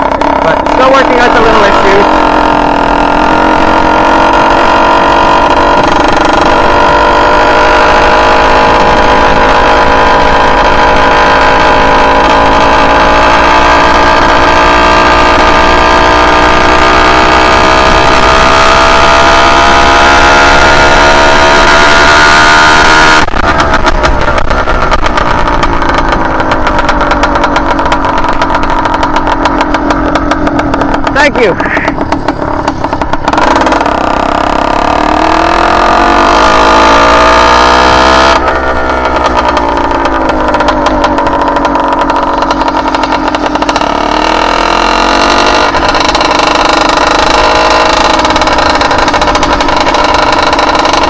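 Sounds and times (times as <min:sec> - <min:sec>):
two-stroke engine running: 0:00.0 - 0:51.0.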